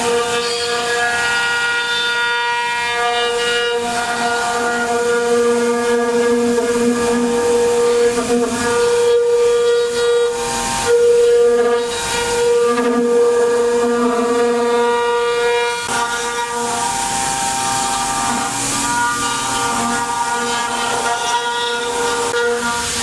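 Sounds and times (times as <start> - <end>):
router spindle whining: 0.0 - 23.0.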